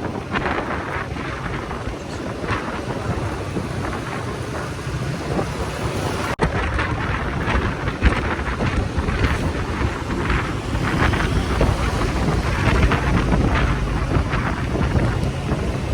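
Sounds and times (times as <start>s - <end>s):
motorcycle engine rumbling: 0.0s - 15.9s
wind buffeting microphone: 0.0s - 15.9s.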